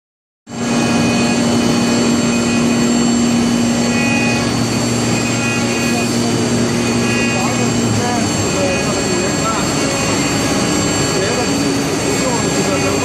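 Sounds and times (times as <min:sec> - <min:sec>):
cnc router carving wood: 0:00.5 - 0:13.0
high-pitched machine whines: 0:00.5 - 0:13.0.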